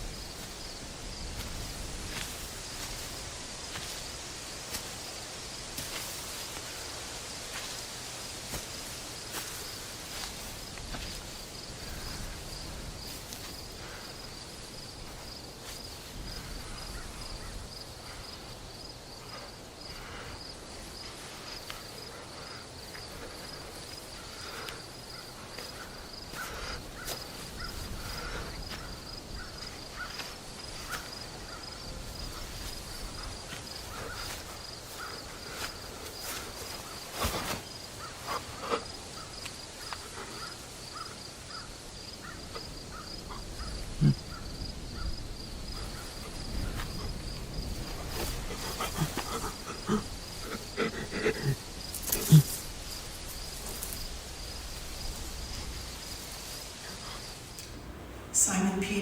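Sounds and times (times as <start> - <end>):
background hiss: 0.0 - 59.0
crickets chirping: 0.0 - 59.0.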